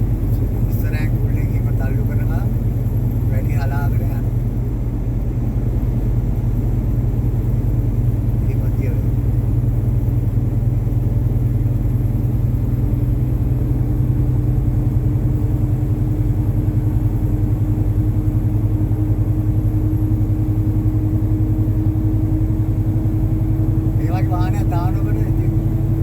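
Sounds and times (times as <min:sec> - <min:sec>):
diesel truck engine droning: 0:00.0 - 0:26.0
road noise: 0:00.0 - 0:26.0.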